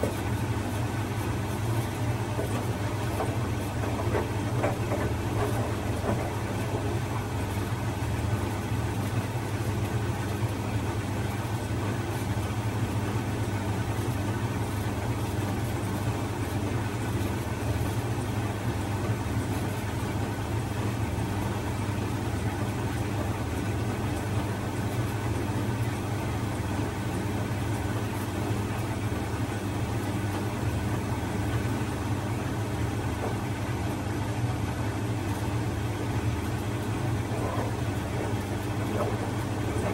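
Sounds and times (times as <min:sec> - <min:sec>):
washing machine drum humming: 0:00.0 - 0:39.9.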